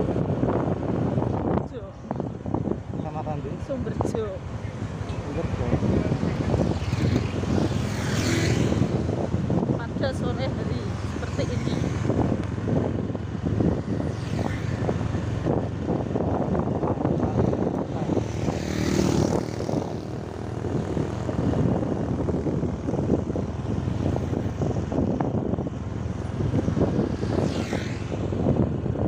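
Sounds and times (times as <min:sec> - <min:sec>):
wind buffeting microphone: 0:00.0 - 0:29.0
scooters passing by: 0:01.0 - 0:29.0.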